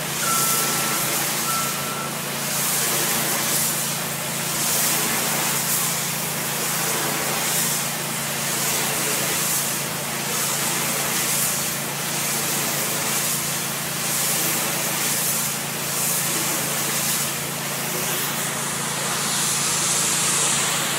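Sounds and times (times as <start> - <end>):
pressure washer jet spraying wall: 0.0 - 20.9.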